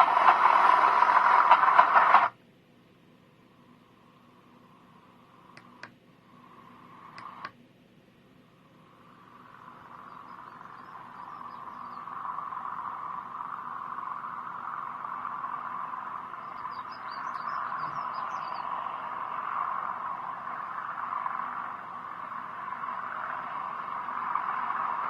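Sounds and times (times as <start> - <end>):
recorded train rushing noise: 0.0 - 2.4, 3.9 - 7.5, 8.8 - 25.0.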